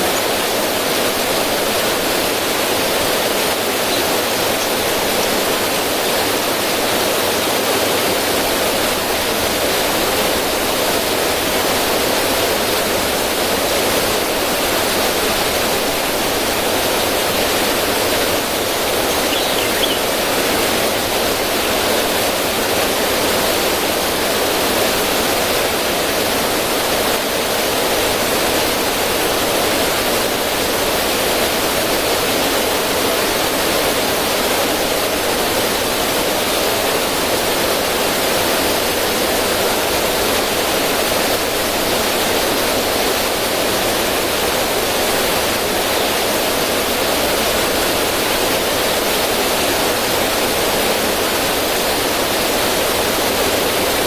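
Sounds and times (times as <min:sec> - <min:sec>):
water flowing over stones: 0:00.0 - 0:54.0.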